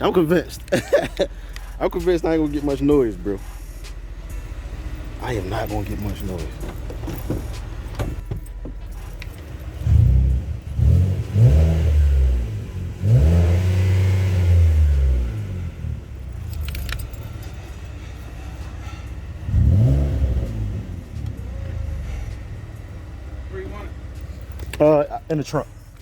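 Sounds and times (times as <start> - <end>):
car engine revving: 0.0 - 26.0
engine idling: 0.0 - 26.0.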